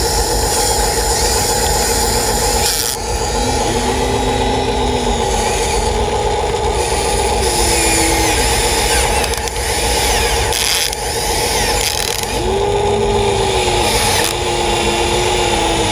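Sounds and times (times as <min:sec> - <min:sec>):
excavator mechanical whine: 0:00.0 - 0:15.9.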